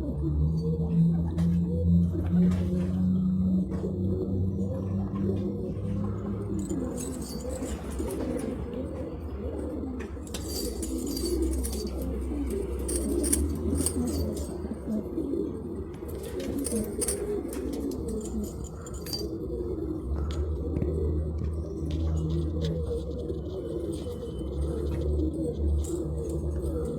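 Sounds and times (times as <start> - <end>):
pigeons cooing: 0.0 - 26.9.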